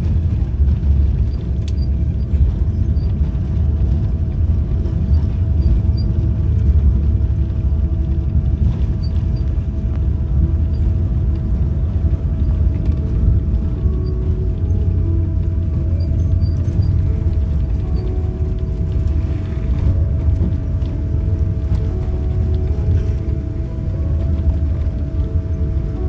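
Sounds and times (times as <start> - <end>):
constant hum tone: 0.0 - 26.0
landing gear and engines rumbling: 0.0 - 26.0.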